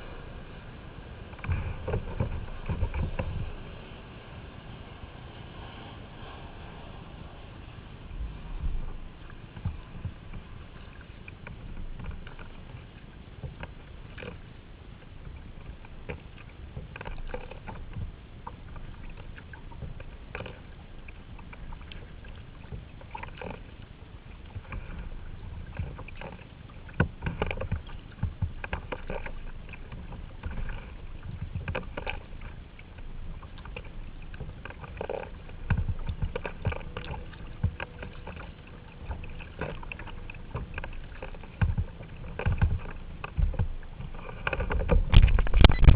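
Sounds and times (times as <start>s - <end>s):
kayak paddle splashing: 0.0s - 45.9s
wind on microphone: 0.0s - 45.9s.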